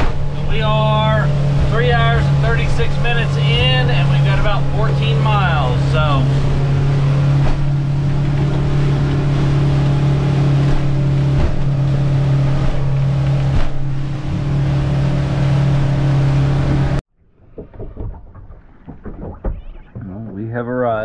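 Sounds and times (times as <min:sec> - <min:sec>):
bow thumping on waves: 0:00.0 - 0:20.4
outboard motor running: 0:00.0 - 0:20.4
water rushing along hull: 0:00.0 - 0:21.0.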